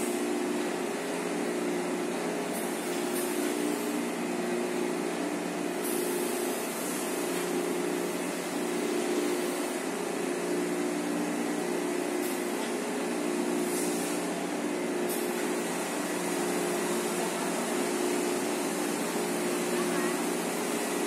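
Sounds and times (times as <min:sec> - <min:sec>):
factory machinery hum: 0:00.0 - 0:21.0.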